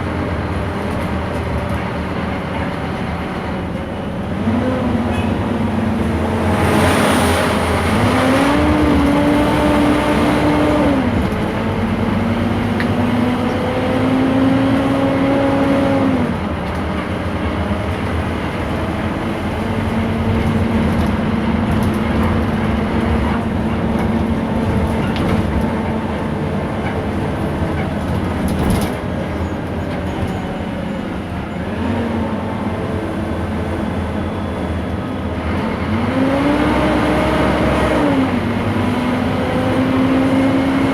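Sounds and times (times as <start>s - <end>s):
bus diesel engine accelerating: 0.0s - 40.9s.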